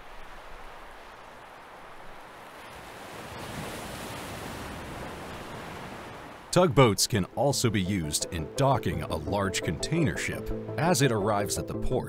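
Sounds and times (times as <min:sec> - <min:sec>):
sea waves rushing: 0:00.0 - 0:12.0.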